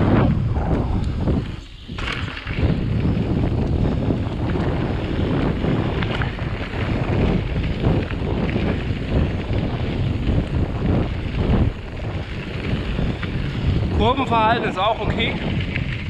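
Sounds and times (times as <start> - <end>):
bike rattling on rough trail: 0.0 - 16.0
tyre noise: 0.0 - 16.0
wind buffeting microphone: 0.0 - 16.0.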